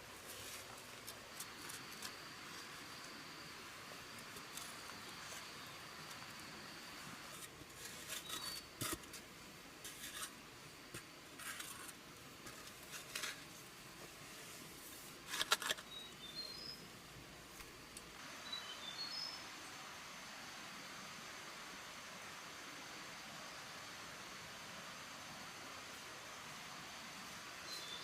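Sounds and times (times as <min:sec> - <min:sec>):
soft steady hiss: 0:00.0 - 0:28.0.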